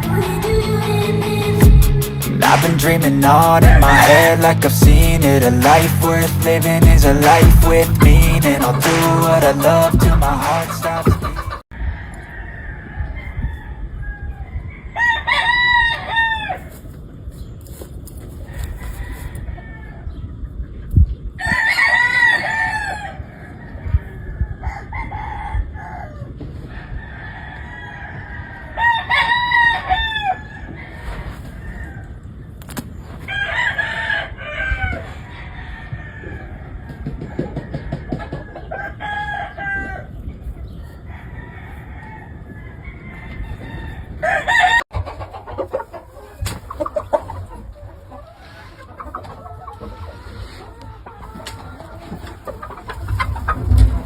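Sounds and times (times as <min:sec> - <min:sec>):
roosters crowing: 0:00.0 - 0:16.9, 0:18.4 - 0:20.3, 0:21.4 - 0:32.4, 0:33.2 - 0:40.3, 0:40.9 - 0:54.0.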